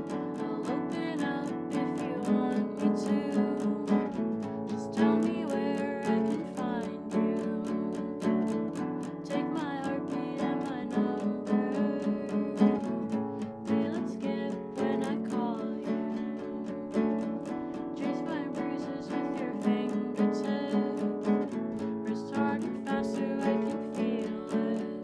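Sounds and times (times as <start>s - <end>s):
classical guitar strumming: 0.0s - 25.0s
woman singing: 0.0s - 25.0s.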